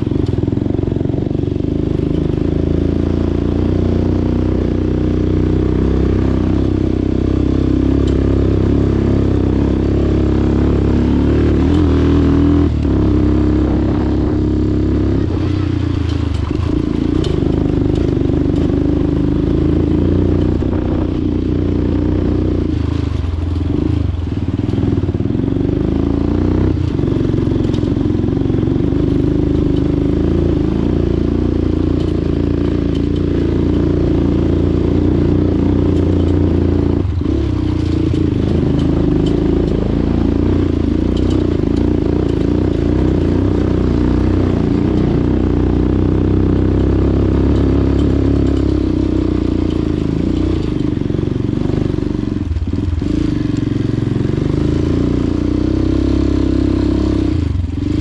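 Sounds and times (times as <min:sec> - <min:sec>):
vehicle engine running under load: 0:00.0 - 0:58.0.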